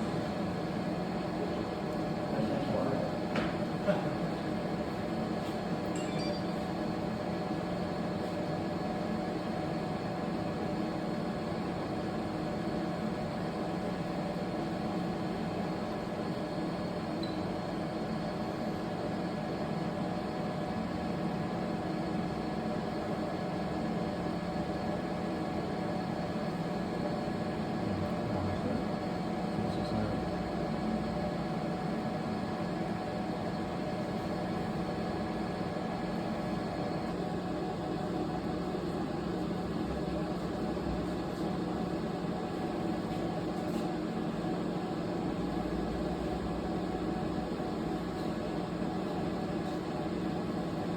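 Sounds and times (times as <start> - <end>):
machine hum and whir: 0.0 - 50.9.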